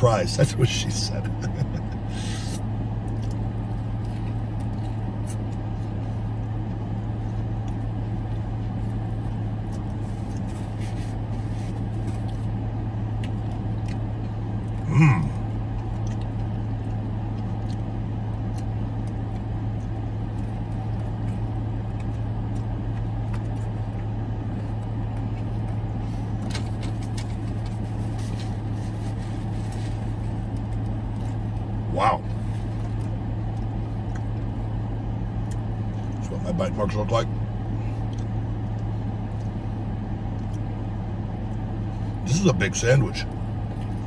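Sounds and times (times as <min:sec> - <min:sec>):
car engine idling hum: 0:00.0 - 0:44.0
faint chewing: 0:01.3 - 0:36.2, 0:37.7 - 0:40.8.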